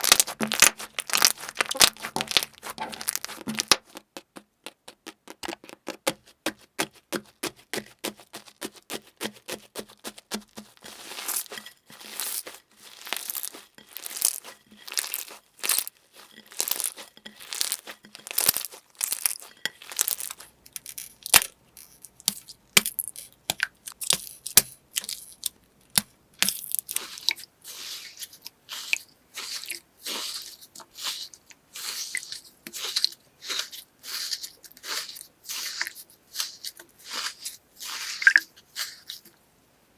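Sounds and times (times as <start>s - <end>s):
crunchy material crackling and crunching: 0.0s - 39.4s.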